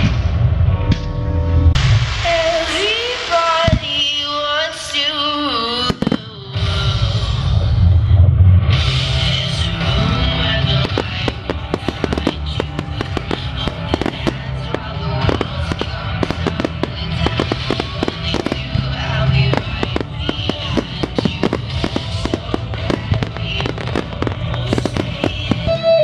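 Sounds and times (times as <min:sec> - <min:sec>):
fireworks bangs and crackles: 0:00.0 - 0:01.1, 0:01.7 - 0:08.0, 0:08.7 - 0:26.0
music playing: 0:00.0 - 0:26.0.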